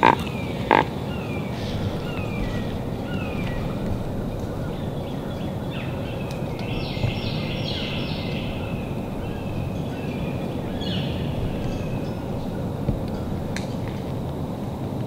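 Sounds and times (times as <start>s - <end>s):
stepped falling bird calls: 0.0s - 14.6s
wild birds calling: 0.0s - 14.7s
low background rumble: 0.0s - 15.0s.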